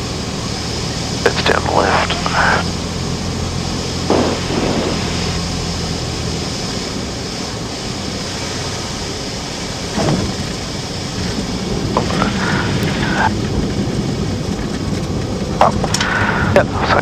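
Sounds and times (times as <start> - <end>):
aircraft engine and propeller drone: 0.0 - 17.0
rushing airflow: 1.5 - 16.8.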